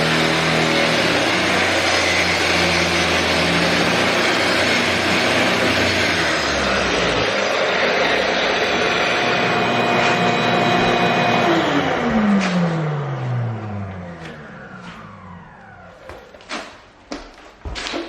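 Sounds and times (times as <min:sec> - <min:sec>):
angle grinder grinding concrete: 0:00.0 - 0:15.2.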